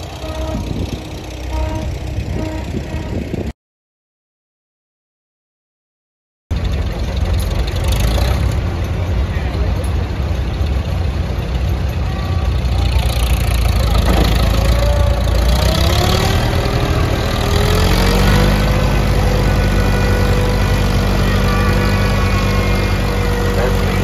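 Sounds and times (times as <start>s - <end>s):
tractor engine running: 0.0s - 3.5s, 6.5s - 24.0s.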